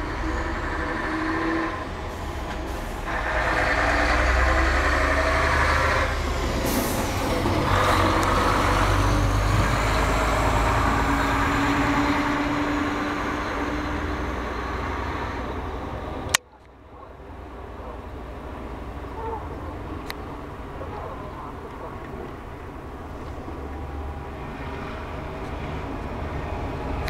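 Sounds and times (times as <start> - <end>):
large vehicle engine rumbling: 0.0 - 27.0.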